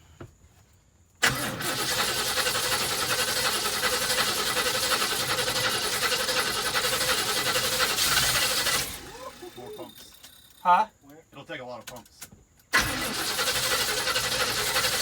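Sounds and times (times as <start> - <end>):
engine cranking on starter: 1.2 - 10.8, 11.8 - 15.0.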